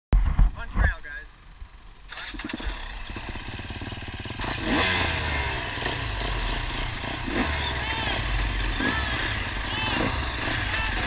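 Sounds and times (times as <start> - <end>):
dirt bike engines idling: 0.5 - 11.0
dirt bike revving: 1.6 - 11.0.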